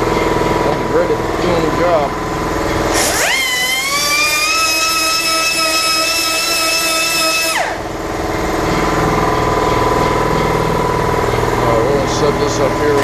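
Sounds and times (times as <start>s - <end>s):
grinder whining: 0.0s - 13.0s
steady engine hum: 0.0s - 13.0s.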